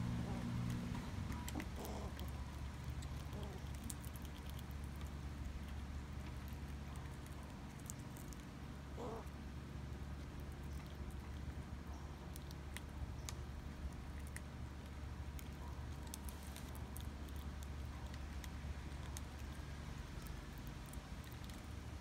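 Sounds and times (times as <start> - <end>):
squirrel clicking and chewing: 0.0 - 22.0
steady low rumble: 0.0 - 22.0.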